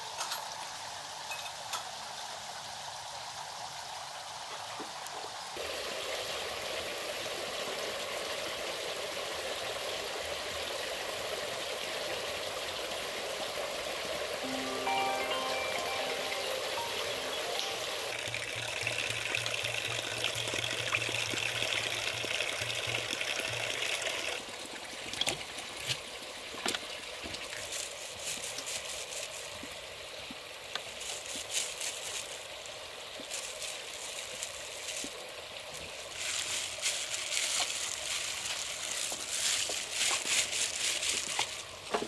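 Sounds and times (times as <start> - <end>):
water running and trickling: 5.6 - 42.0.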